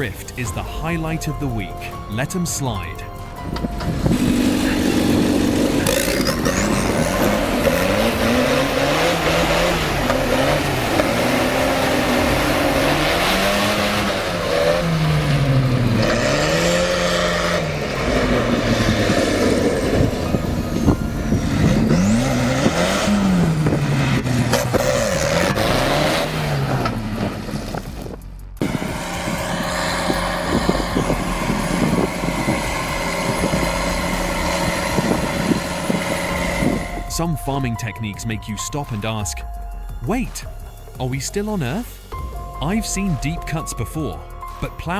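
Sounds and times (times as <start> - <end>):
tractor engine revving: 0.0 - 44.9.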